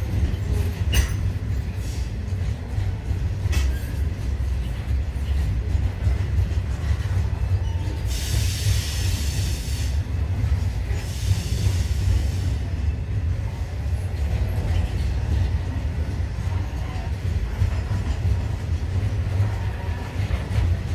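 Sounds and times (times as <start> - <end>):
train wagons rumbling past: 0.0 - 20.9.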